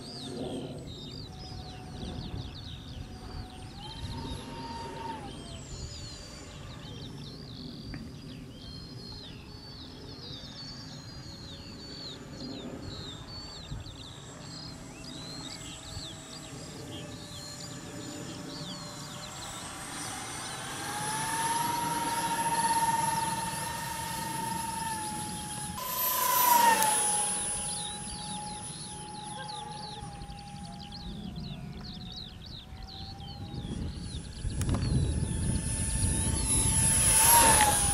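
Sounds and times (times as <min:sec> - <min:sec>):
birds chirping: 0:00.0 - 0:37.9
electric ducted fan whining: 0:00.0 - 0:37.9.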